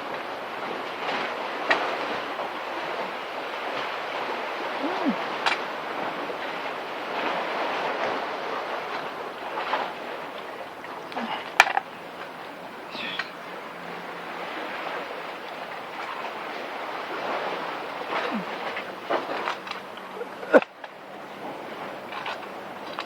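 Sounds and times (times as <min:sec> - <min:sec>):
waves surging against seawall: 0:00.0 - 0:23.0.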